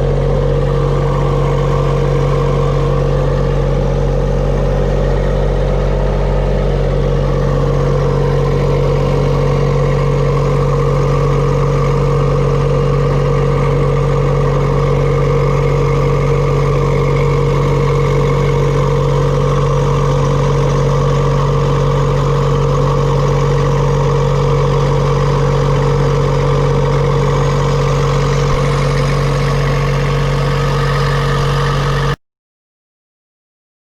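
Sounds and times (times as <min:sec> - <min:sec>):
diesel engine running: 0:00.0 - 0:32.2.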